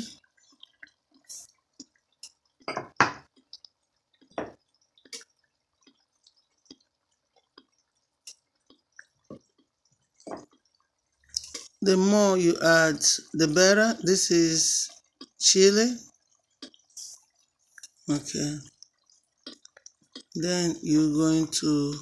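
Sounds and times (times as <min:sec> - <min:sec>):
chicken frying in oil popping: 0:00.0 - 0:22.0.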